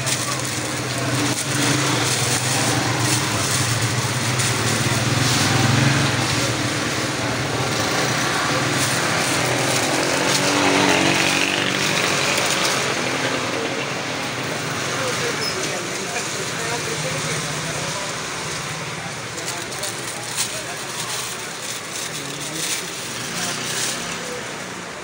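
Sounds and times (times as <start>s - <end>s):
busy street noise: 0.0s - 25.0s
vehicle engine running: 0.0s - 25.0s.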